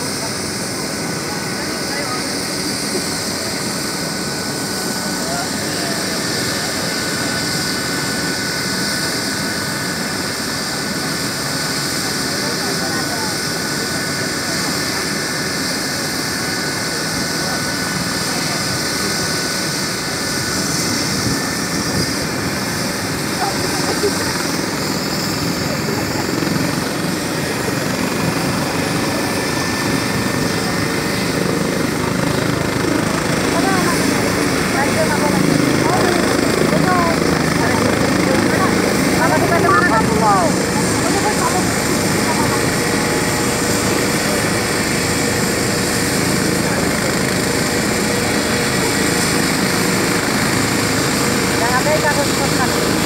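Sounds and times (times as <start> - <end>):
helicopter turbine and rotor noise: 0.0 - 53.0.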